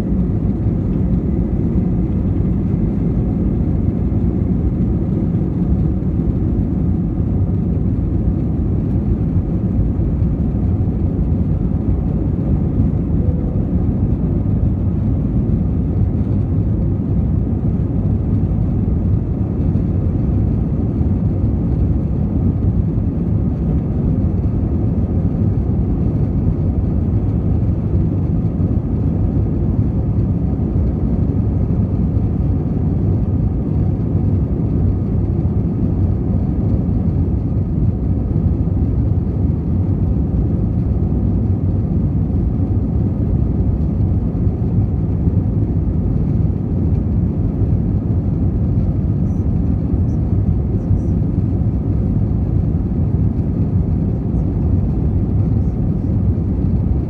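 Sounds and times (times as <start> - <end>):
jet engines deep rumble in cabin: 0.0 - 57.0.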